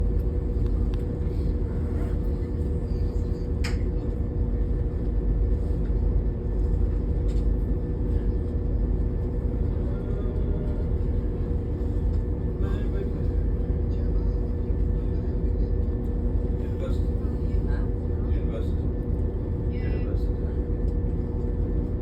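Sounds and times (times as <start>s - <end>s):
train running with low rumble: 0.0s - 22.0s.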